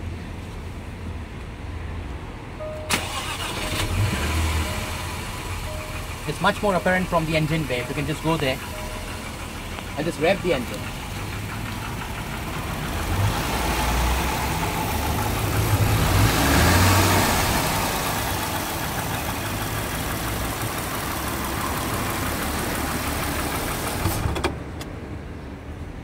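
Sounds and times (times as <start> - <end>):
car engine revving: 2.9 - 24.5
rapid engine ticking rattle: 3.0 - 24.8.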